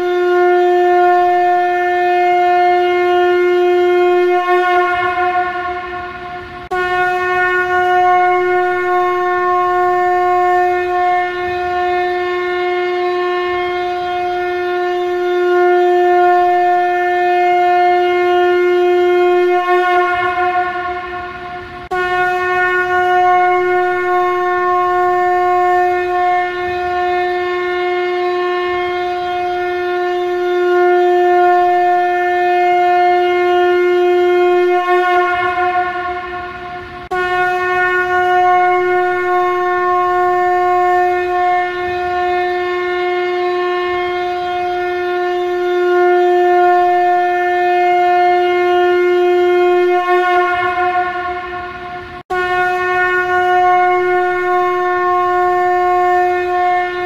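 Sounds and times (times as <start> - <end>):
conch shell trumpet blasts: 0.0 - 57.0.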